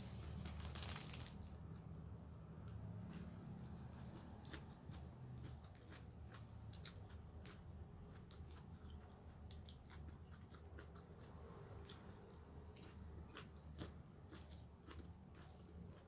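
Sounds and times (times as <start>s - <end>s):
chewing crisp salad: 2.7s - 16.0s.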